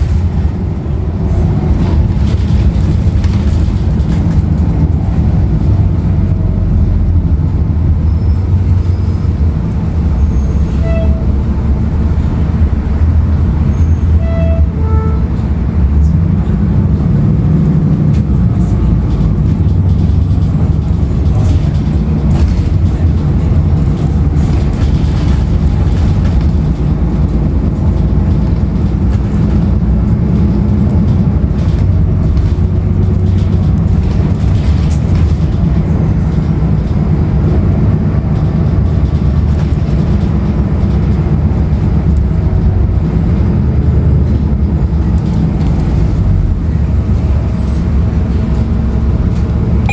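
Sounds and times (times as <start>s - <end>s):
bus diesel engine drone: 0.0s - 49.9s
road rumble: 0.0s - 49.9s.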